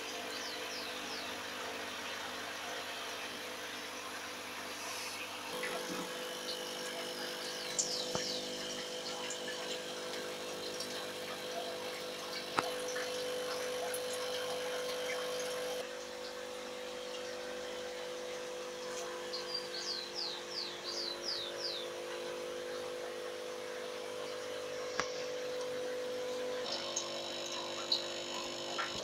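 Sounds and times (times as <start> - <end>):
aquarium air pumps humming: 0.0 - 29.0.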